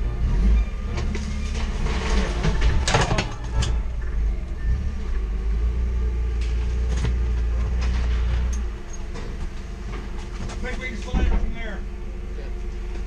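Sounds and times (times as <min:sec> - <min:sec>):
forklift engine rumble: 0:00.0 - 0:13.0.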